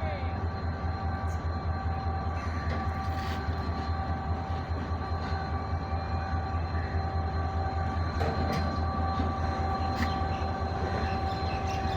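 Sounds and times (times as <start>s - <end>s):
diesel locomotive throbbing: 0.0s - 11.9s.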